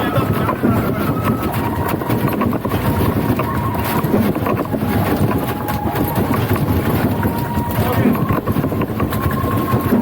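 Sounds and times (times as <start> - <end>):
dense clatter of knocks and clicks: 0.0 - 10.0.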